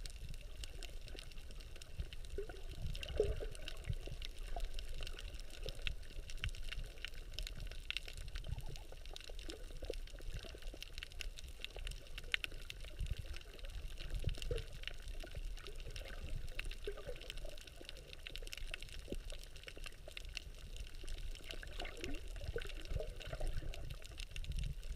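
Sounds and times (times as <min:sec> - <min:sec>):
low rumble of moving water: 0:00.0 - 0:24.9
small clicks and crackles: 0:00.0 - 0:24.9.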